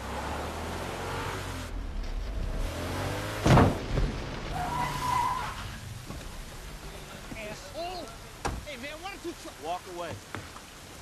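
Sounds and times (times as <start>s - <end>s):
car engine rumble: 0.0s - 9.6s.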